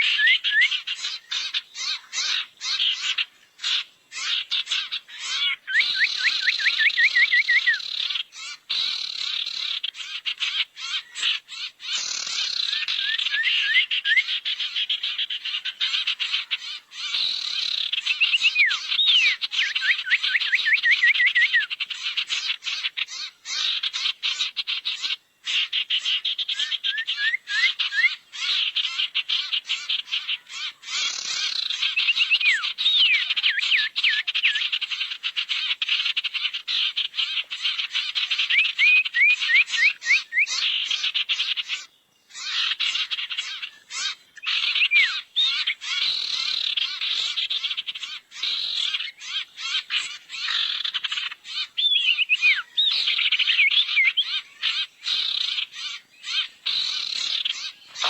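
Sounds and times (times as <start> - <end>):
fast chattering bird call: 0.0 - 58.0.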